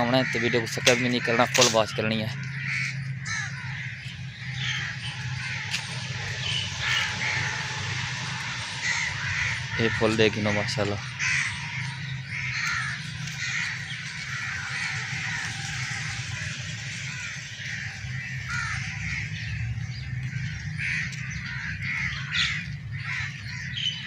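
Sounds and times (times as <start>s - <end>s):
crows cawing: 0.0s - 24.0s
low rumble: 0.0s - 24.0s.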